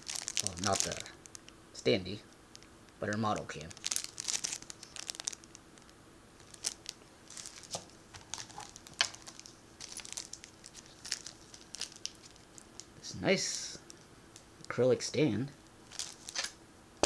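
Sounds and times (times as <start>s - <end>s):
plastic wrapping crinkling: 0.0s - 1.6s, 2.5s - 14.8s, 15.6s - 16.6s.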